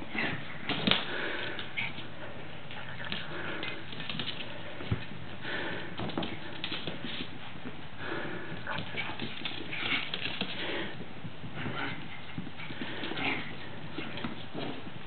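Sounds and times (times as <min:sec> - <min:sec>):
paws scrabbling on wooden floor: 0:00.1 - 0:15.0.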